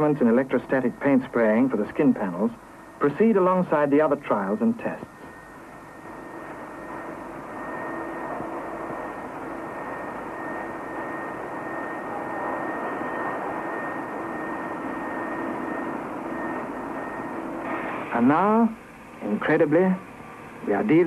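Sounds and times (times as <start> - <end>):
lower hum: 0.0 - 21.0.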